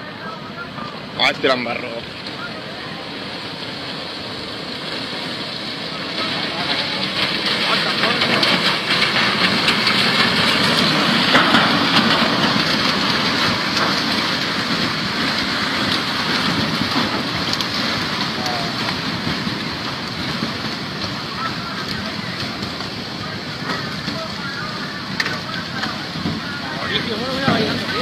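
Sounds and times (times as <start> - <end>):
debris flow rushing: 0.1 - 28.0.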